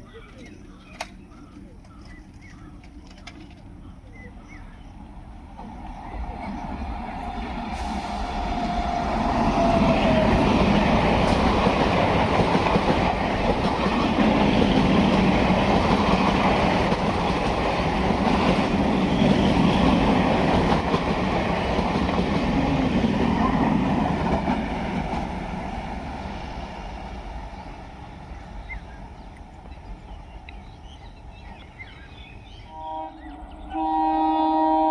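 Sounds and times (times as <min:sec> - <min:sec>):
train rumble and wheel clatter: 0:00.0 - 0:34.9.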